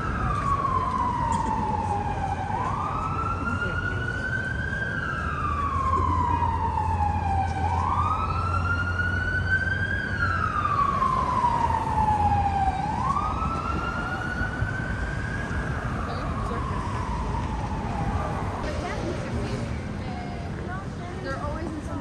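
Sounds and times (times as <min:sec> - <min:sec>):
emergency siren wailing: 0:00.0 - 0:22.0.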